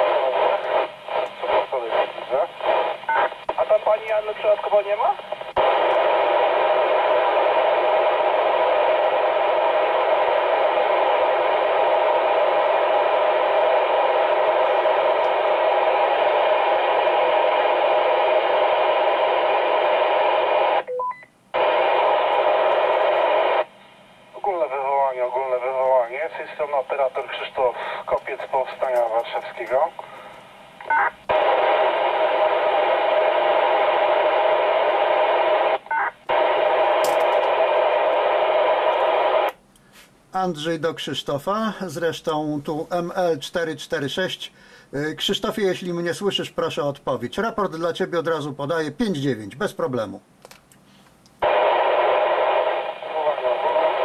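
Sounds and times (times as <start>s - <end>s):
radio static hiss: 0.0s - 20.9s, 21.5s - 50.2s, 51.4s - 54.0s.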